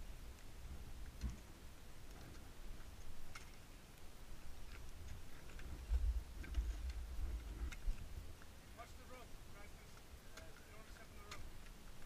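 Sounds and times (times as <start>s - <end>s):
climbing gear clicking on ice: 0.3s - 12.0s.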